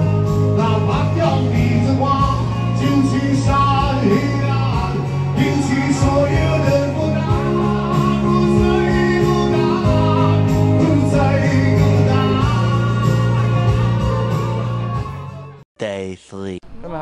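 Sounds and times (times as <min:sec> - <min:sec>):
man singing into microphone: 0:00.0 - 0:14.6
guitar accompaniment: 0:00.0 - 0:15.6.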